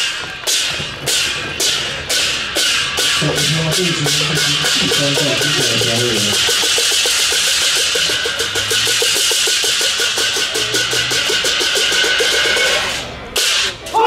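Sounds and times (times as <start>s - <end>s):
drum roll: 0.0s - 13.8s
clashing cymbals: 0.0s - 13.9s.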